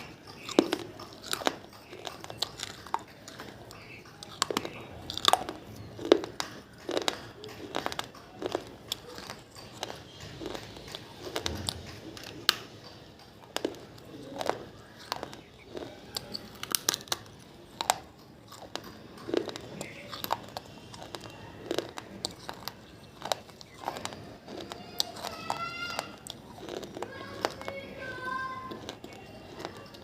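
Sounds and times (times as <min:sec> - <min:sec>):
clay pieces being chewed: 0:00.0 - 0:30.0.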